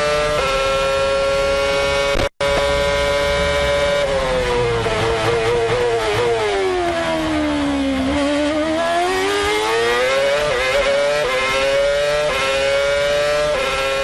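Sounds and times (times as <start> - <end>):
racing car engine: 0.0 - 14.0.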